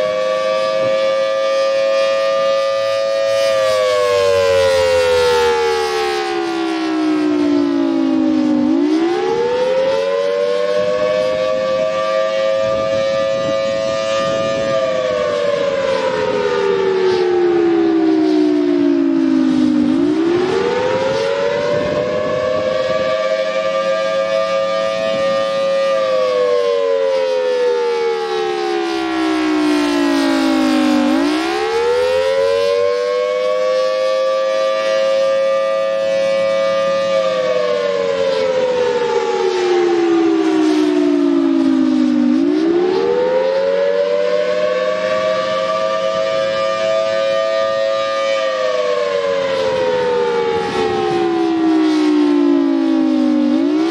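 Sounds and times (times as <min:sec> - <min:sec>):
warning siren wailing: 0:00.0 - 0:53.9.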